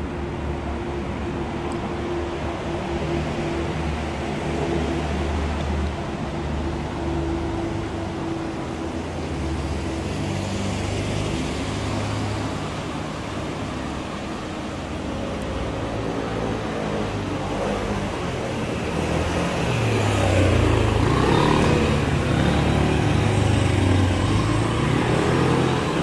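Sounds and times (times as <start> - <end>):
city traffic rumble: 0.0 - 26.0.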